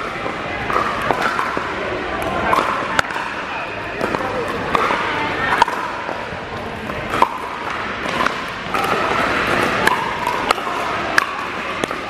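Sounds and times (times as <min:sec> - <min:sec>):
background noise of other courts: 0:00.0 - 0:12.0.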